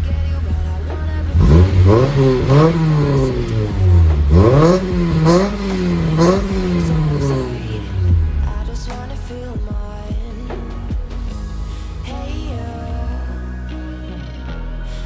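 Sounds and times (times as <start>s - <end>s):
car engine idling and revving: 0.0s - 13.3s.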